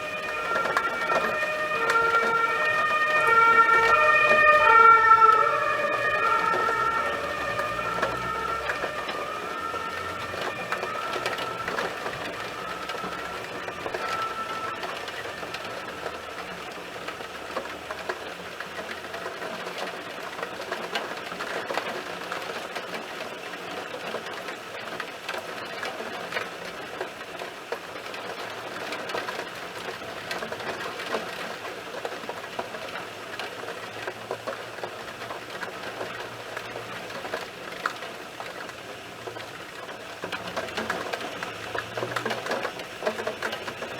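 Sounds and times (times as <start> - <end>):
distant siren: 0.0 - 43.9
heavy rain pattering: 0.0 - 43.9.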